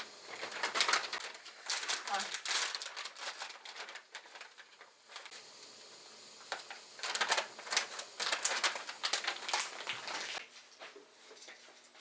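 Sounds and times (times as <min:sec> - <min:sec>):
clicks and rustles of handling: 0:00.3 - 0:05.3, 0:06.4 - 0:12.0.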